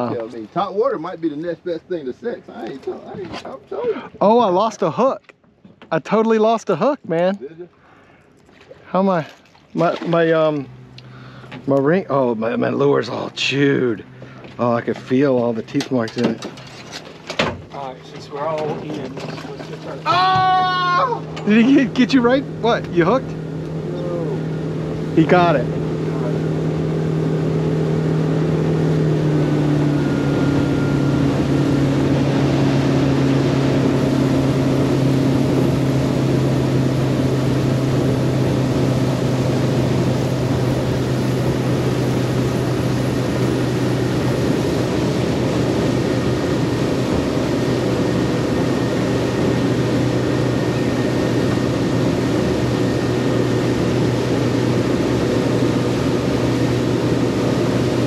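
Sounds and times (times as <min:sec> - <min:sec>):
boat motor running: 0:00.0 - 0:58.0.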